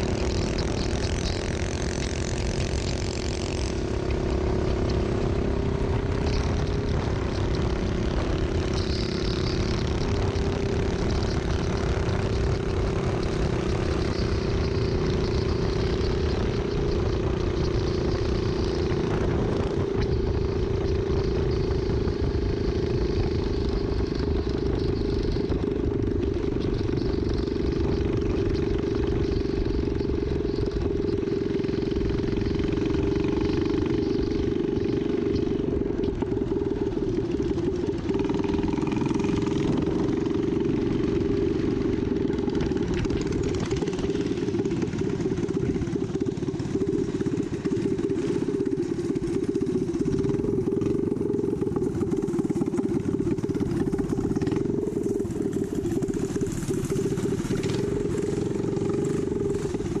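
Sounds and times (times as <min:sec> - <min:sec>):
small dirt bike engine running: 0:00.0 - 1:00.0.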